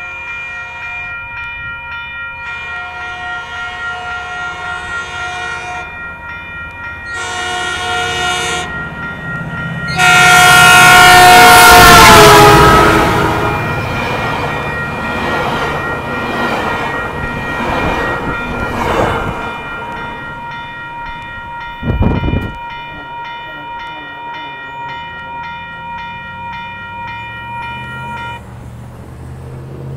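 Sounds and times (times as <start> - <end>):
crossing bell ringing: 0.0 - 28.8
train cars rumbling on rails: 0.0 - 29.9.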